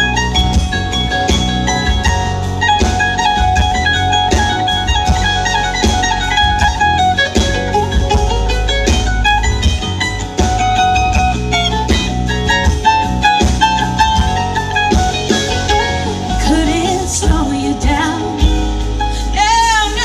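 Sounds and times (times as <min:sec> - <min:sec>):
lead guitar: 0:00.0 - 0:20.0
live band playing blues-country: 0:00.0 - 0:20.0.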